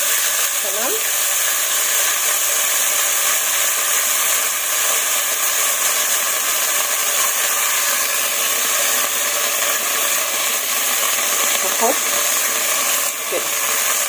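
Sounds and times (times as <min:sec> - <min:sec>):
lentils sizzling in hot oil: 0:00.0 - 0:14.0.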